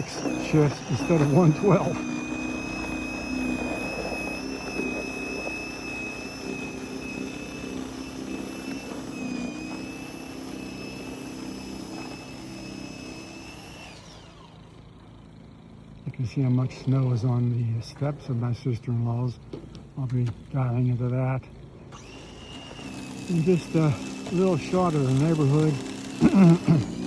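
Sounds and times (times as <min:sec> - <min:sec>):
electric snow blower motor whine: 0:00.0 - 0:27.0.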